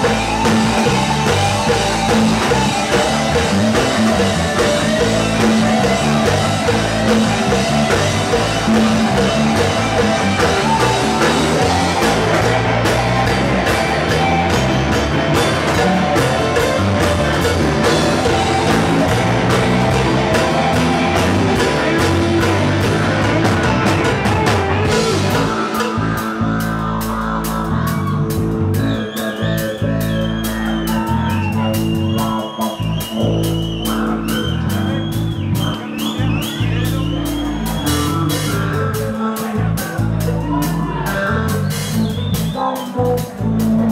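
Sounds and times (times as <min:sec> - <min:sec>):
bass guitar: 0:00.0 - 0:43.9
drum kit with cymbal beat: 0:00.0 - 0:43.9
electric guitars: 0:00.0 - 0:43.9.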